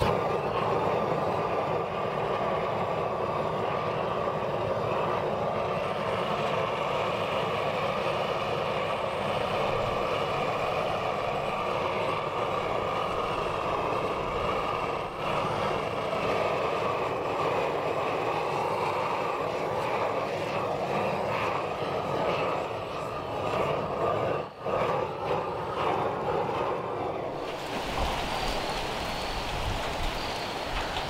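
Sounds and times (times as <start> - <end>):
propane torch flame hissing: 0.0 - 31.0.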